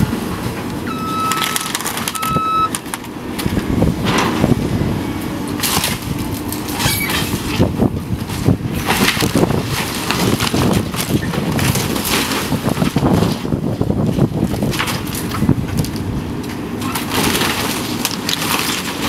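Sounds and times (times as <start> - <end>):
heavy machine engine rumbling: 0.0 - 19.0
structure cracking and crunching: 0.5 - 3.5, 5.5 - 19.0.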